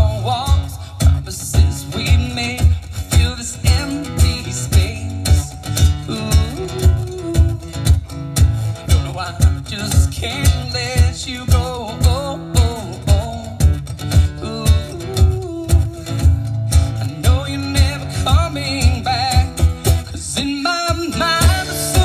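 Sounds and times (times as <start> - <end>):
acoustic guitar strumming: 0.0 - 22.0
cajon beat: 0.0 - 22.0.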